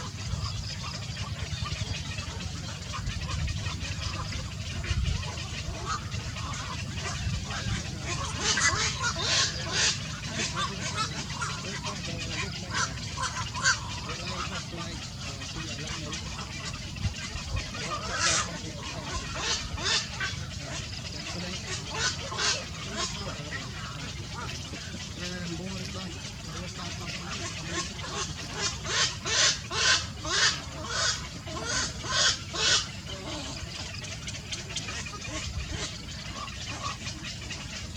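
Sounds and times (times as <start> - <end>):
pet birds chirping: 0.0 - 37.9
steady low hum: 0.0 - 37.9.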